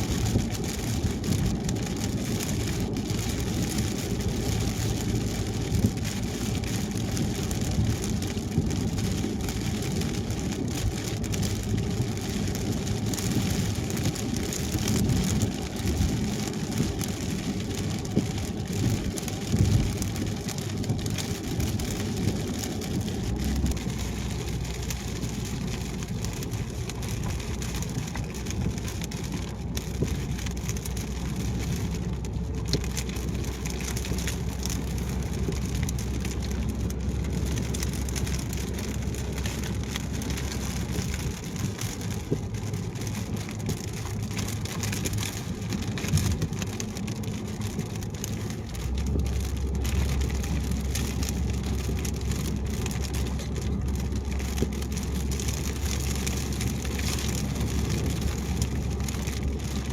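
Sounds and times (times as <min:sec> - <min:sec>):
raindrops ticking on car: 0:00.0 - 0:59.9
tyre and road noise: 0:00.0 - 0:59.9.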